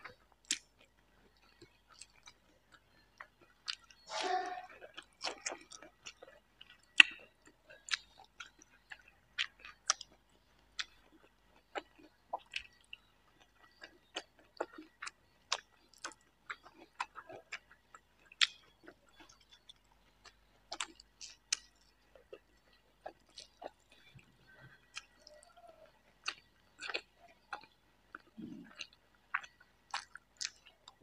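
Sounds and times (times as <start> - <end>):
close chewing: 0.0 - 31.0.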